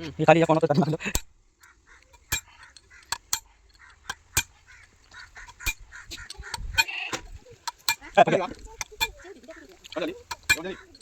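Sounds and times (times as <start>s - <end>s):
metal tools clinking: 0.0s - 1.2s, 2.0s - 11.0s.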